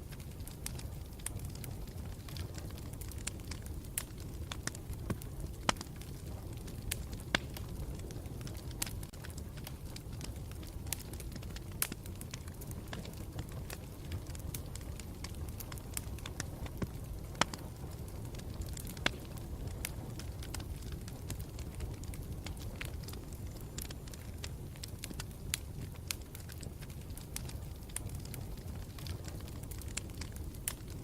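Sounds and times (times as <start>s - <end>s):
campfire rumble: 0.0s - 31.0s
fire crackling and popping: 0.0s - 31.0s.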